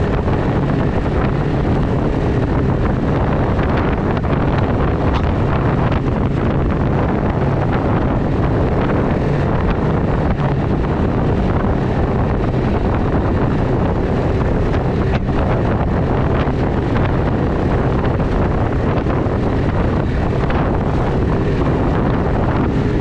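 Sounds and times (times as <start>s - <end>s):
snowmobile engine running: 0.0s - 23.0s
wind buffeting microphone: 0.0s - 23.0s.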